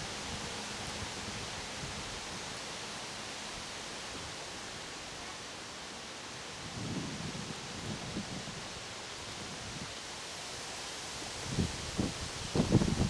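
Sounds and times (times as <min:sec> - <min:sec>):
wind rustling tree leaves: 0:00.0 - 0:13.0.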